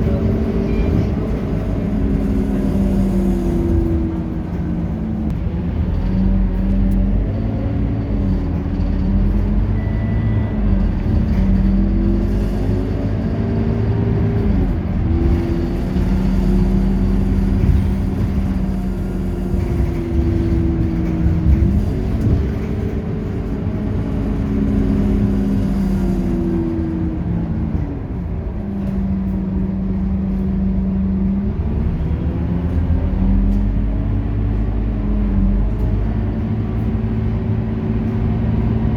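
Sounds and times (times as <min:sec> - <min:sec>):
bus diesel engine pulling: 0:00.0 - 0:38.9.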